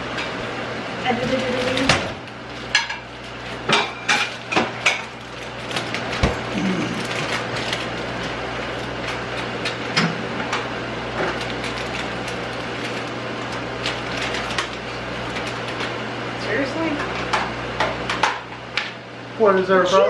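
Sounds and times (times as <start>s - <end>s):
appliance humming: 0.0s - 20.0s.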